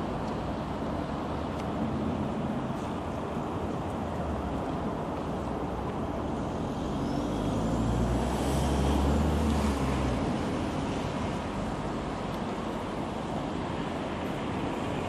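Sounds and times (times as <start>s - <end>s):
road traffic noise: 0.0s - 15.0s
passing vehicle engine rumble: 1.0s - 15.0s.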